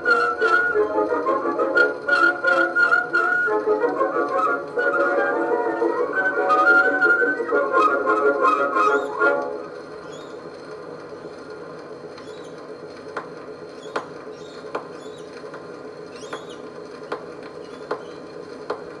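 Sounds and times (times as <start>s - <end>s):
record surface hiss: 0.0s - 19.0s.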